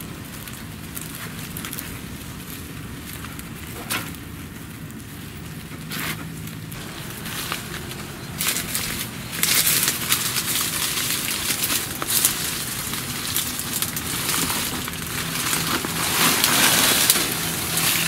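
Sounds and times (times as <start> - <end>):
dry leaves crackling by hand: 0.0 - 18.0.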